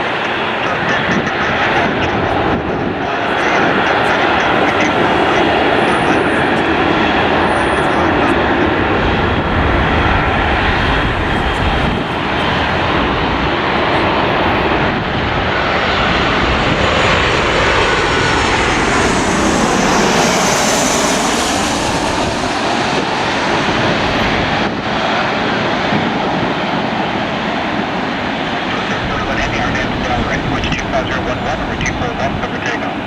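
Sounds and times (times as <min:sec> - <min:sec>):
jet airliner passing by: 0:00.0 - 0:33.0.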